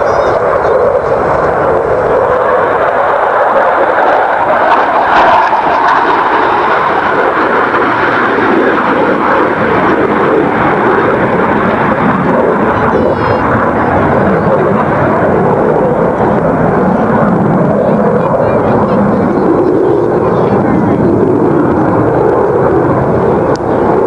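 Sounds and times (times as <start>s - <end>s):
aircraft flying past: 0.0s - 24.0s.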